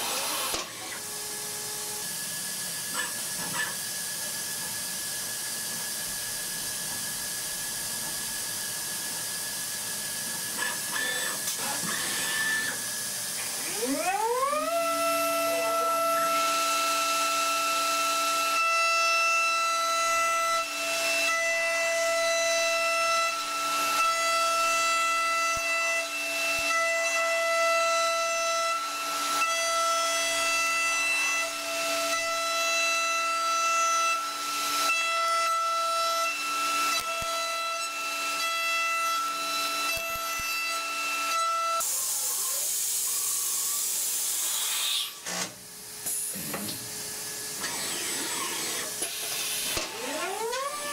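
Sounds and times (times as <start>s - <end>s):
cutter milling aluminium: 0.0s - 35.0s, 35.6s - 50.9s.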